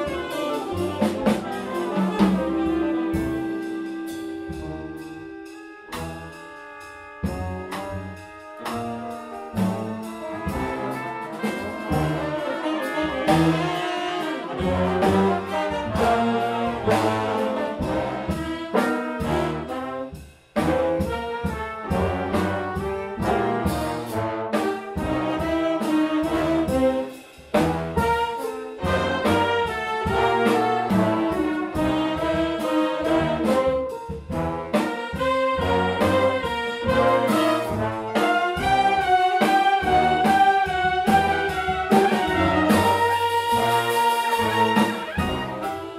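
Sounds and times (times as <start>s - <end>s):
jazz big band: 0.0s - 45.9s
trumpets and trombones: 0.0s - 45.9s.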